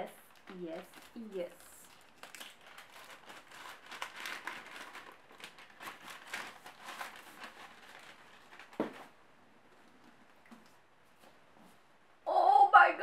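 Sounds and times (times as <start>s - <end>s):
paper wrapping crinkling: 0.0s - 11.2s.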